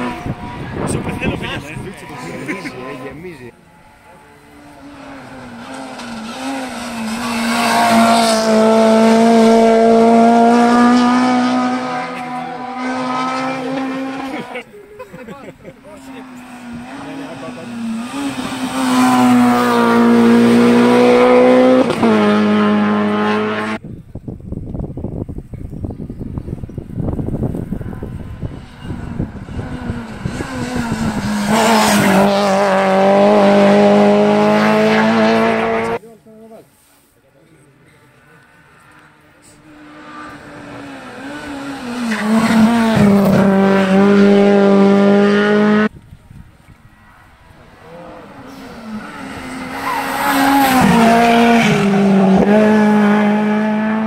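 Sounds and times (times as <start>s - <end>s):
car engine revving high: 0.0s - 14.7s, 15.9s - 23.8s, 26.9s - 36.0s, 39.0s - 45.9s, 47.4s - 54.0s.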